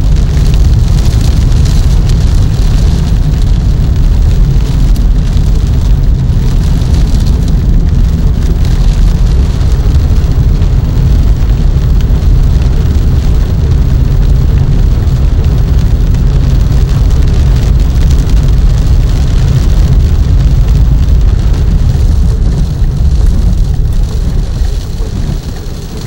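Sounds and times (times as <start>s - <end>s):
rain: 0.0s - 26.0s
wind blowing on microphone: 0.0s - 26.0s.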